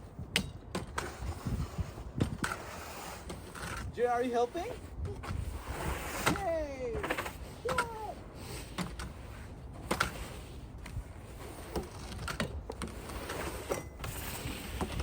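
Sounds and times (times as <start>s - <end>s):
wind rumble on microphone: 0.0s - 15.0s
snow brushed off car: 1.1s - 12.1s, 12.9s - 15.0s.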